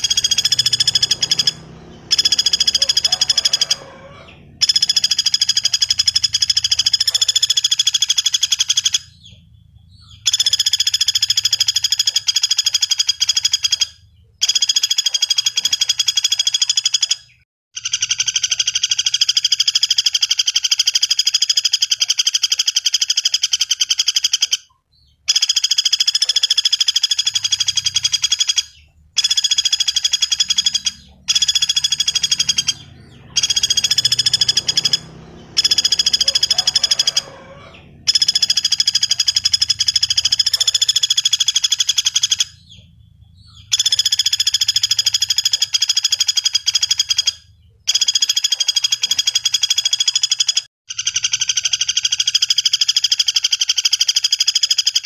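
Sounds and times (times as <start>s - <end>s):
woodpecker trilling rattles: 0.0s - 55.0s.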